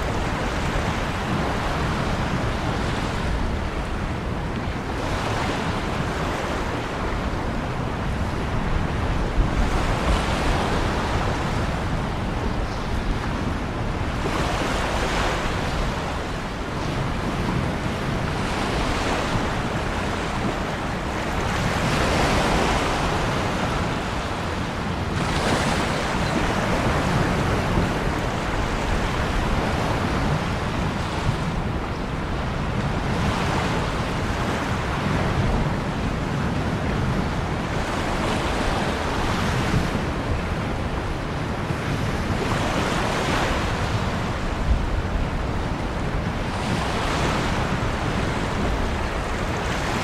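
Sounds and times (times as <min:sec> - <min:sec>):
ocean waves breaking: 0:00.0 - 0:50.0.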